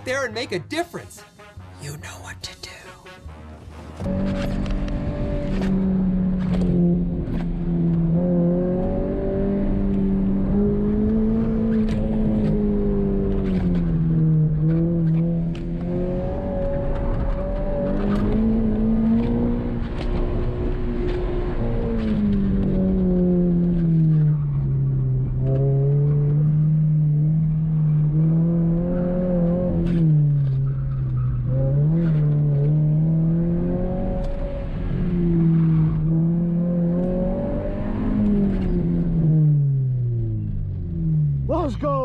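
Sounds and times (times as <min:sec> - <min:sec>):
car engine revving: 0:01.4 - 0:42.0.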